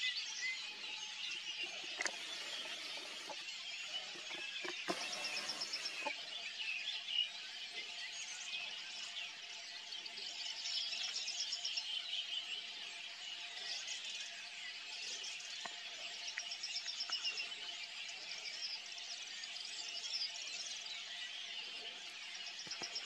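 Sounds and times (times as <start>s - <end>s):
birds singing and calling: 0.0s - 23.0s.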